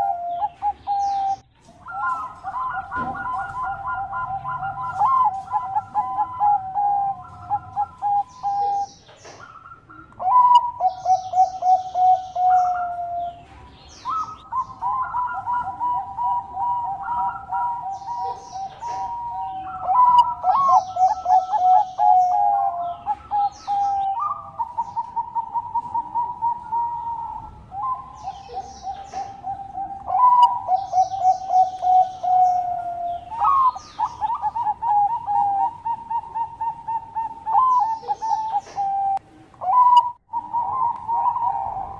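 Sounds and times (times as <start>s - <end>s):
doves cooing: 0.0s - 41.9s
high bird chirps: 0.0s - 41.9s.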